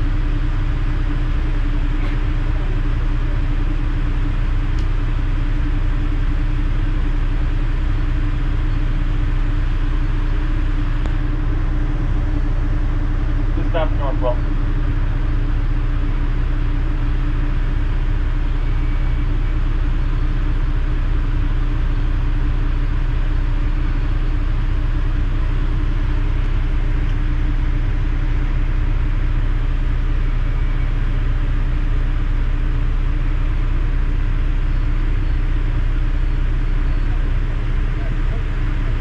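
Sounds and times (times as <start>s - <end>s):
ferry engines rumbling: 0.0s - 39.0s
steady hum: 0.0s - 39.0s.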